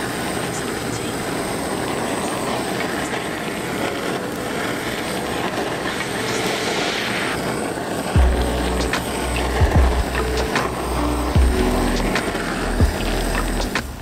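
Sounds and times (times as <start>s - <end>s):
blowtorch flame hissing: 0.0s - 14.0s.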